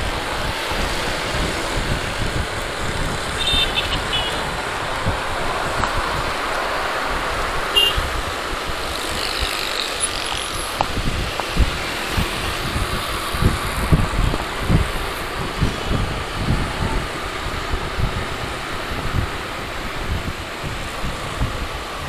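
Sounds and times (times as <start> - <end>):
surrounding traffic: 0.0 - 22.0
wind buffeting thumps: 0.0 - 22.0
wind rushing over microphone: 0.0 - 22.0
motorcycle engine: 0.1 - 19.3.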